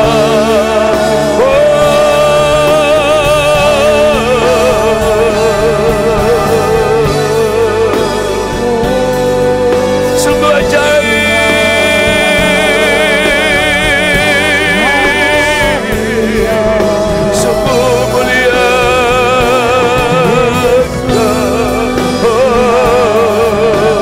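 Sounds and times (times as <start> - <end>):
instrumental accompaniment: 0.0 - 24.0
singers holding long notes: 0.0 - 24.0.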